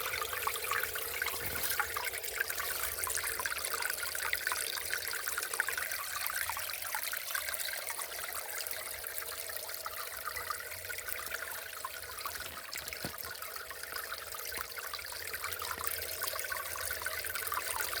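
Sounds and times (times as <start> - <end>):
stream water trickling: 0.0 - 18.0.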